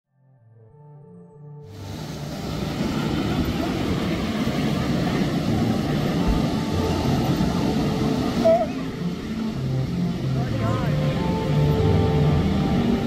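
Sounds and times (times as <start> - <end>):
wind: 1.6 - 13.0
surf breaking: 1.7 - 13.0
boat motor running: 1.8 - 13.0.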